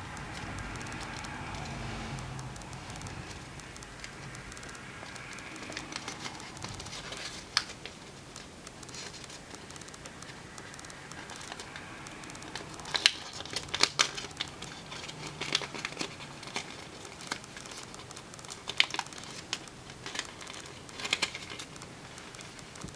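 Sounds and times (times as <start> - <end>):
paper crinkling and crackling: 0.0 - 22.9.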